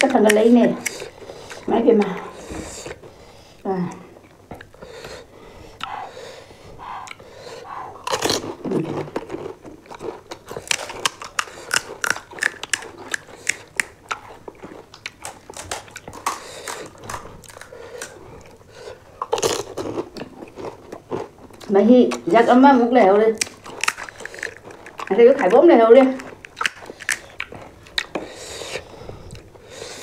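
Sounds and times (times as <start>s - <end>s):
crunching and chewing crisp food: 0.0s - 30.0s.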